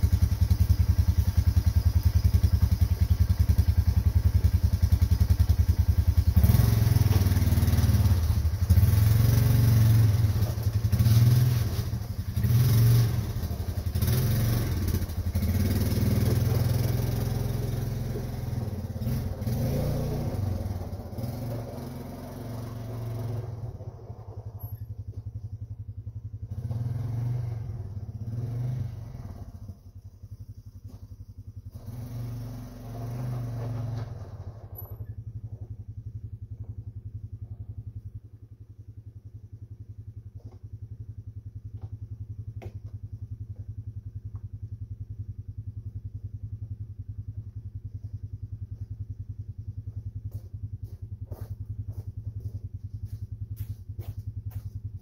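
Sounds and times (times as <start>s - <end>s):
engine running and revving: 0.0s - 37.8s, 46.0s - 55.0s.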